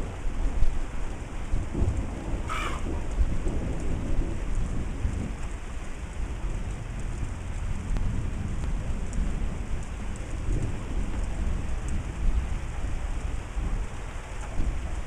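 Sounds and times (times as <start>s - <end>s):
low uneven rumble: 0.0s - 15.0s
rain falling: 0.0s - 15.0s.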